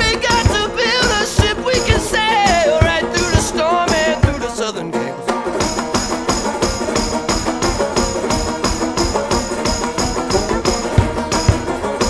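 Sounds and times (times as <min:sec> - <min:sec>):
tambourine-like percussion: 0:00.0 - 0:04.6, 0:05.4 - 0:12.0
plucked string chords: 0:00.0 - 0:12.0.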